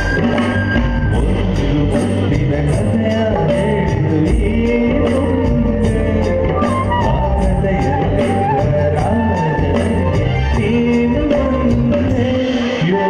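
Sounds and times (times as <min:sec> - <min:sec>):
live band playing pop song: 0:00.0 - 0:13.0
man singing: 0:00.0 - 0:13.0
steady drum beat: 0:00.0 - 0:13.0.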